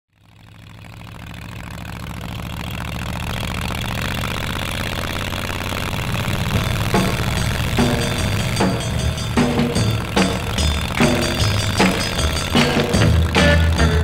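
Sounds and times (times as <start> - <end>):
car engine idling: 0.1 - 14.0.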